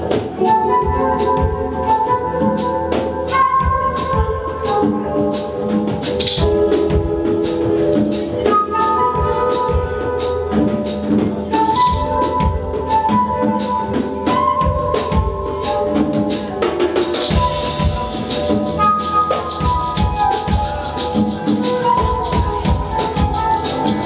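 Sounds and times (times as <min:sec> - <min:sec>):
drum kit beat: 0:00.0 - 0:24.0
live band music: 0:00.0 - 0:24.0.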